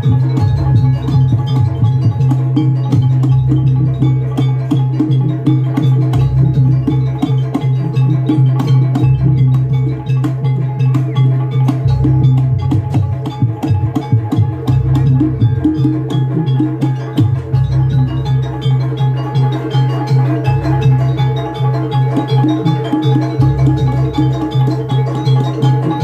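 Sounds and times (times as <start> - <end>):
fast dense drumming: 0.0 - 26.0
struck percussion: 0.0 - 26.0.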